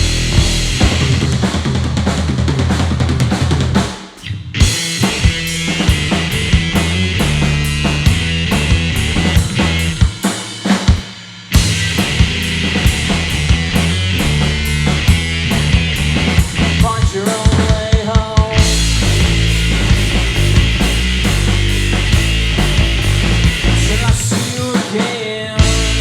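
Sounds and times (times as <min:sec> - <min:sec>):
electric guitar: 0:00.0 - 0:03.3, 0:04.2 - 0:10.1, 0:11.5 - 0:26.0
bass guitar: 0:00.0 - 0:10.3, 0:11.5 - 0:24.5, 0:25.6 - 0:26.0
drum kit: 0:00.0 - 0:26.0.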